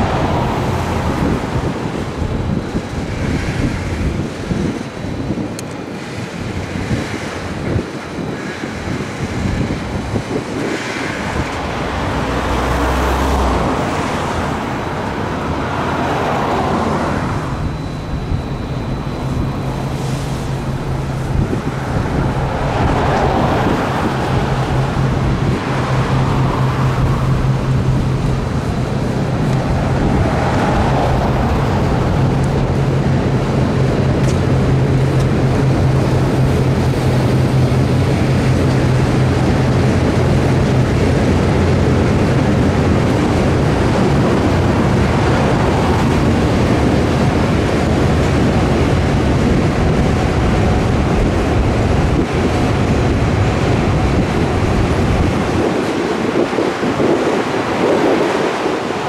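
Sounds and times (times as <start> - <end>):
locomotive engine hum: 0.0 - 59.0
train rumbling on rails: 0.0 - 59.0.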